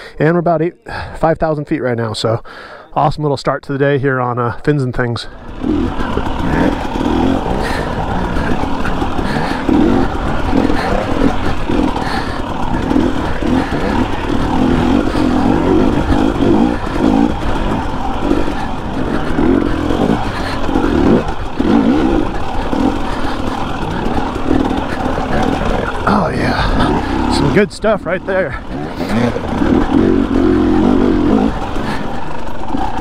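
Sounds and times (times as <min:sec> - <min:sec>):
dirt bike engine revving: 0:05.2 - 0:33.0.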